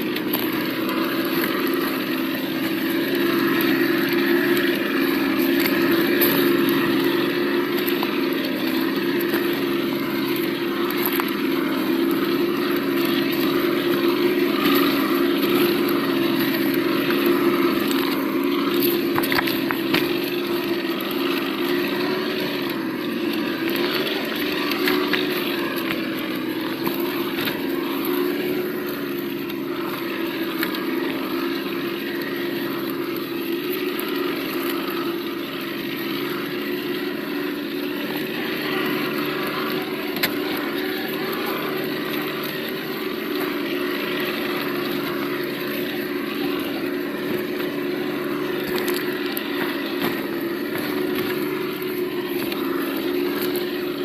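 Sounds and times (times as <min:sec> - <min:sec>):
simulated engine sound from speaker: 0:00.0 - 0:54.0.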